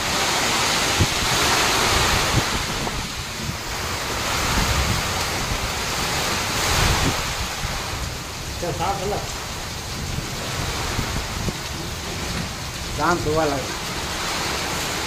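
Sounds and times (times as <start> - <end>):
heavy rain on metal roof: 0.0 - 15.0
wind buffeting microphone: 0.0 - 15.0.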